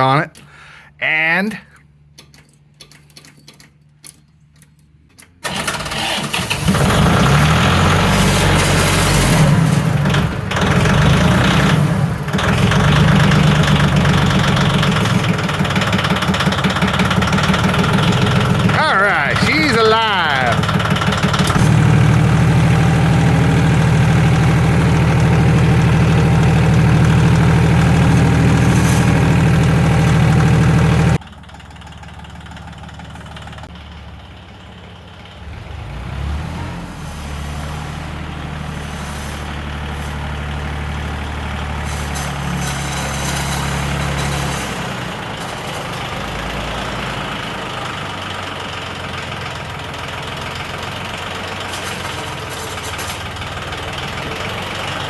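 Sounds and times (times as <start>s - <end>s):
diesel tractor engine running: 5.2s - 55.0s.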